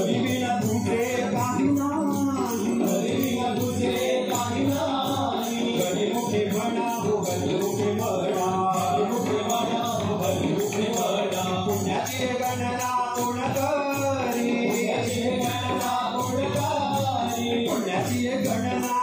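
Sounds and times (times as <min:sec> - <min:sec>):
drum beat: 0:00.0 - 0:19.0
group singing devotional song: 0:00.0 - 0:19.0
metallic jingling hand percussion: 0:00.0 - 0:19.0.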